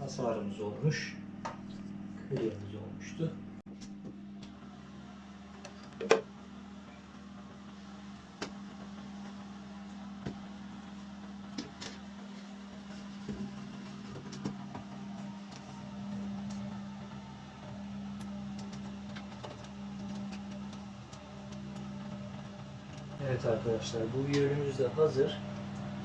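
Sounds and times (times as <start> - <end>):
incubator electric hum: 0.0 - 26.0.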